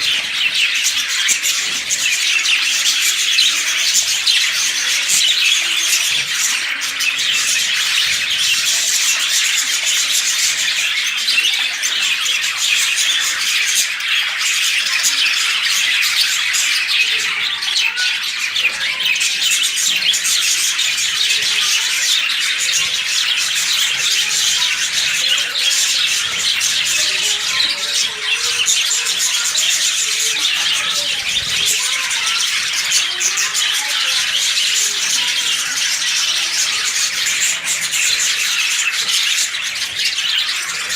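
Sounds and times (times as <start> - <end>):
lovebirds chattering and squawking: 0.0 - 40.9.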